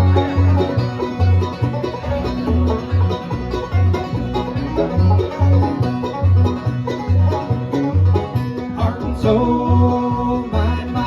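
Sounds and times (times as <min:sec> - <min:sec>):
banjo and guitar picking: 0:00.0 - 0:11.0
bass notes: 0:00.0 - 0:11.0.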